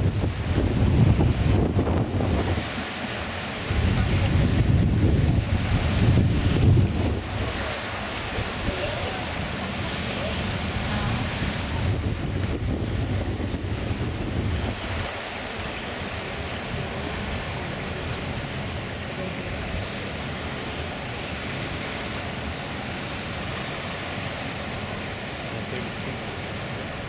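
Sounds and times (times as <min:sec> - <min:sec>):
wind buffeting microphone: 0:00.0 - 0:25.4
rough sea and churned water: 0:00.0 - 0:27.0.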